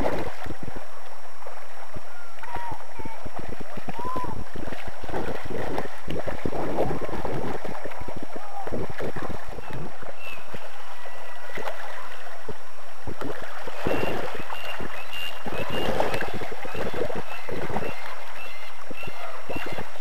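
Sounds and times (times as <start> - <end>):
river water rushing over gravel: 0.0 - 20.0.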